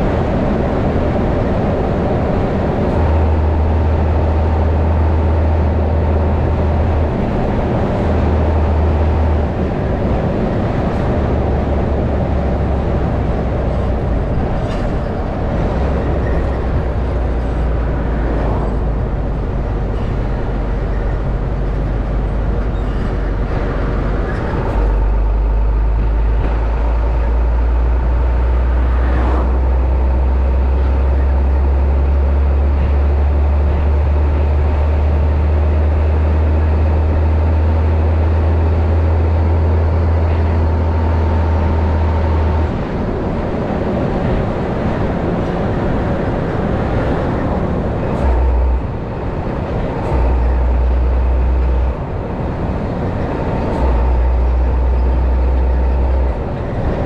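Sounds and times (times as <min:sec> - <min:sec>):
diesel engine drone: 0:00.0 - 0:57.0
road and tyre noise: 0:00.0 - 0:57.0.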